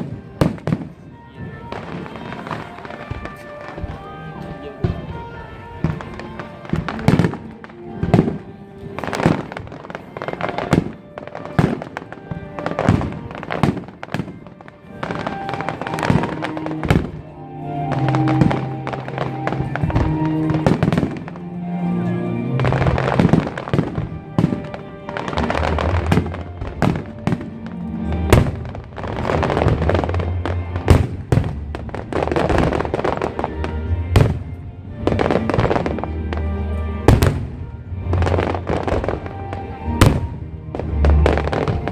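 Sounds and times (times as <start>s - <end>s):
fireworks bursting: 0.0s - 21.6s, 22.5s - 41.9s.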